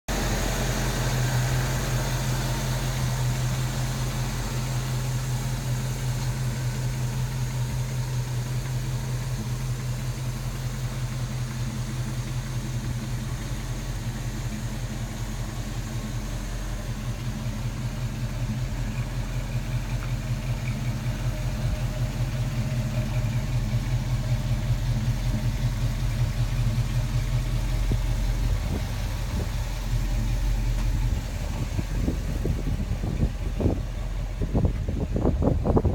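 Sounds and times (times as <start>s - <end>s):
truck engine idling: 0.1s - 35.9s.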